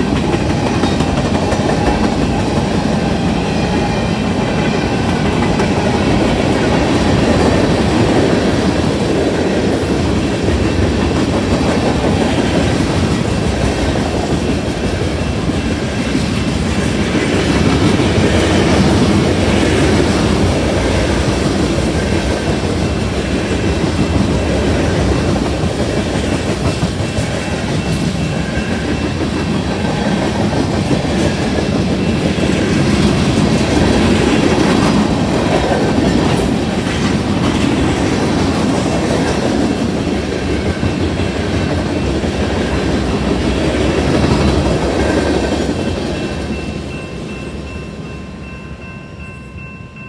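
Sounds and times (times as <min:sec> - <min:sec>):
crossing bell ringing: 0:00.0 - 0:37.4, 0:41.8 - 0:50.0
freight train rumbling past: 0:00.0 - 0:50.0.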